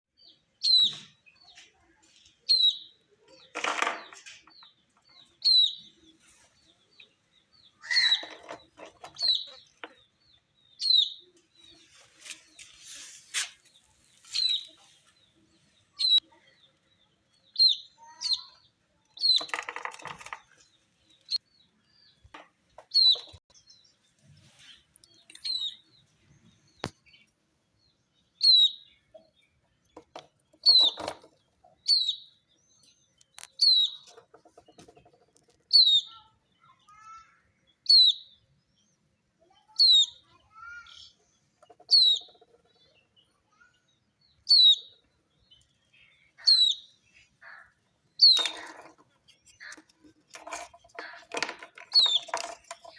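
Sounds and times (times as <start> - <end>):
baby chicks peeping: 0.2 - 52.9.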